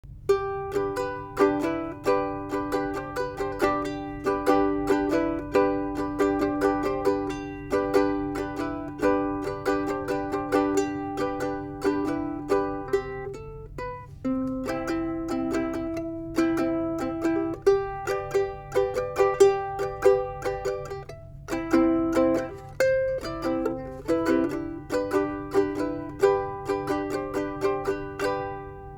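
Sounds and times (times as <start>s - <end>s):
ukulele playing chords and notes: 0.1s - 28.9s.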